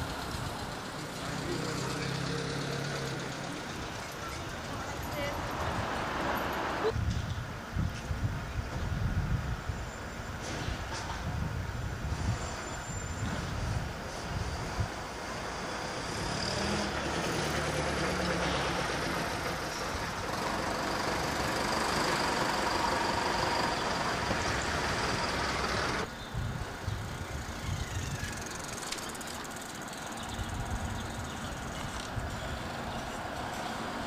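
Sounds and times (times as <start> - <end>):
quiet traffic rumble: 0.0 - 34.0
road traffic rush: 0.0 - 34.0.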